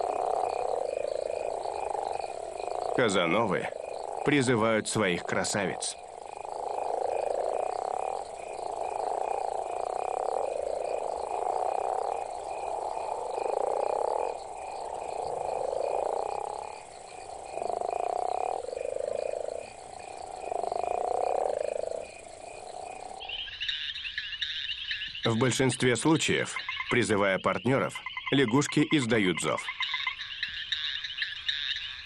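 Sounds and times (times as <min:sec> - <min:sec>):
toads calling in chorus: 0:00.0 - 0:32.0.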